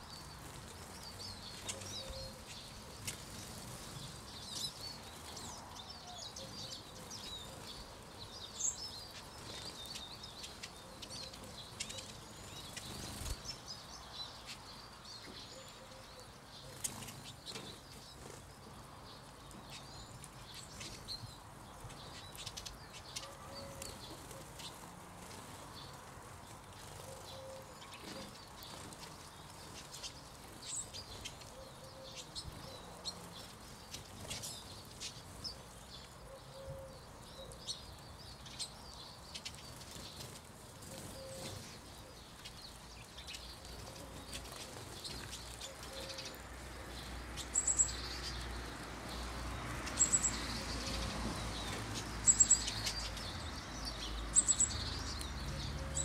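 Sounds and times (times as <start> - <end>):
birds twittering with high chirps: 0.0 - 56.0.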